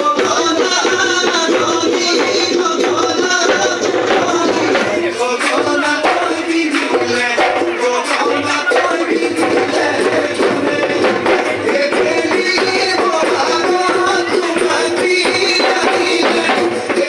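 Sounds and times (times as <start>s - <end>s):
person singing: 0.0s - 17.0s
steady percussion beat: 0.0s - 17.0s.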